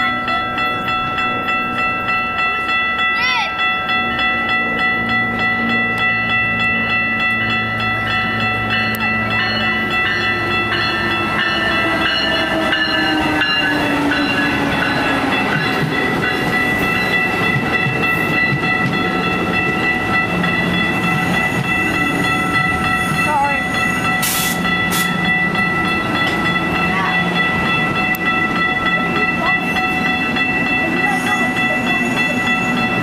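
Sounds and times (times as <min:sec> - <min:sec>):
locomotive engine drone: 0:00.0 - 0:33.0
train cars rumbling and clattering: 0:00.0 - 0:33.0.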